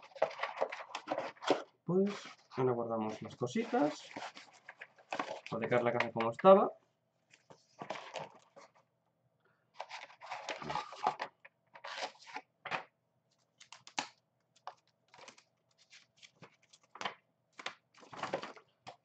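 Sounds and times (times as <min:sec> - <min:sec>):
paper rustling and crinkling: 0:00.0 - 0:06.0, 0:07.3 - 0:08.8, 0:09.8 - 0:12.8, 0:13.4 - 0:19.0.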